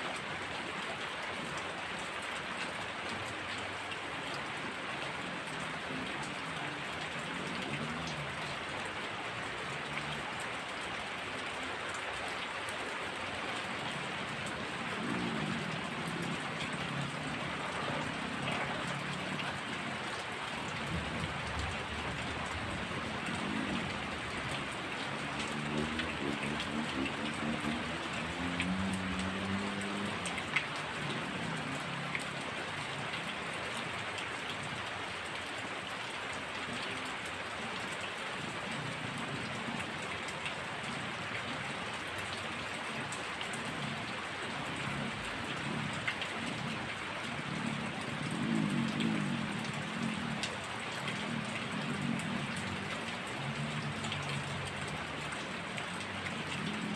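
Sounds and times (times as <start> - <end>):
heavy rain falling: 0.0 - 56.9
sharp drip ticks: 1.6 - 56.9.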